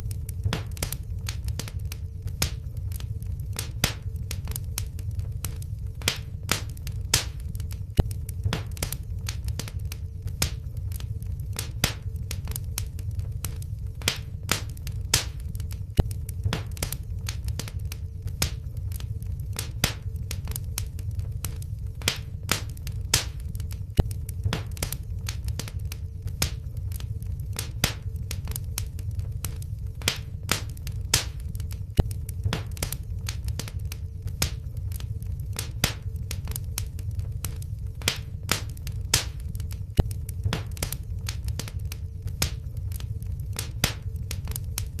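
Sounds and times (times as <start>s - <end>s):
faint steady hum: 0.0s - 45.0s
wood fire crackling and popping: 0.0s - 45.0s.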